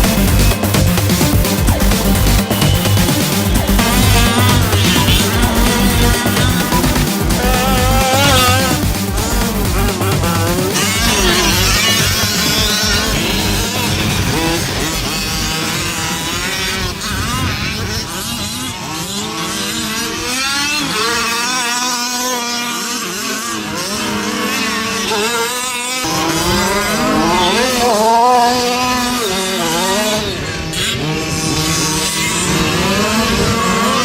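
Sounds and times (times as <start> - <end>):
rc car motors whining: 0.0 - 34.0.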